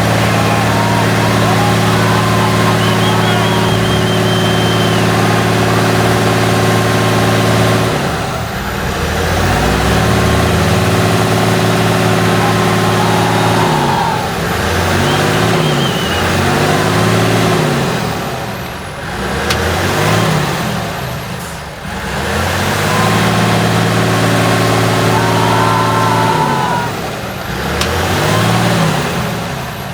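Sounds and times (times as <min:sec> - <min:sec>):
truck diesel engine revving: 0:00.0 - 0:29.9.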